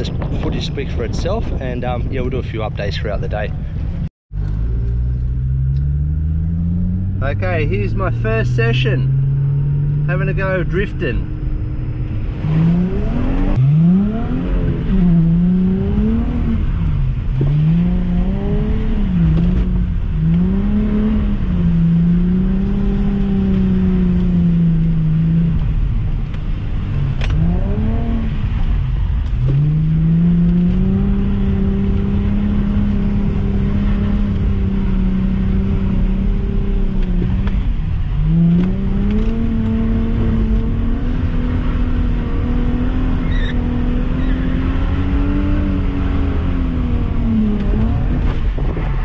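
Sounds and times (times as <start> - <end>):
car engine revving hard: 5.4 - 25.7, 26.9 - 49.0.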